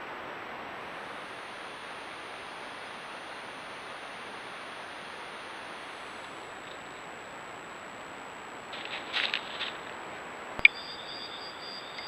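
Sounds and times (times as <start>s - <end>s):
microphone hiss: 0.0s - 12.0s
thin high whine: 0.0s - 12.0s.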